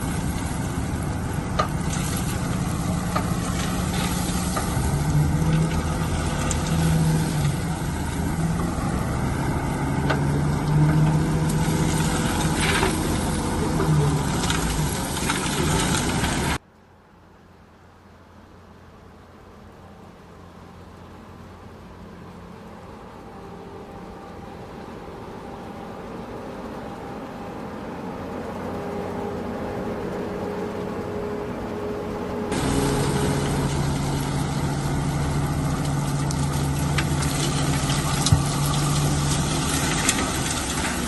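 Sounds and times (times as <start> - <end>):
diesel engine running: 0.0 - 16.6, 19.8 - 41.0.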